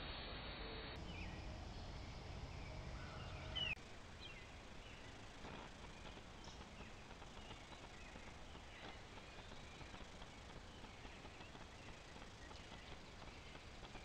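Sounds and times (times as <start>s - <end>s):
microphone hiss: 0.0s - 14.0s
distant bird chirps: 1.0s - 14.0s.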